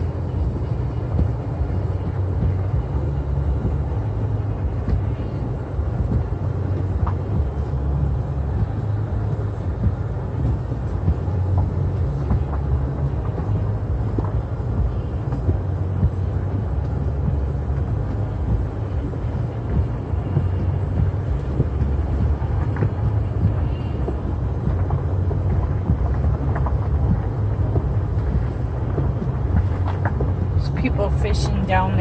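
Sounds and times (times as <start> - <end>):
car cabin low rumble: 0.0 - 32.0.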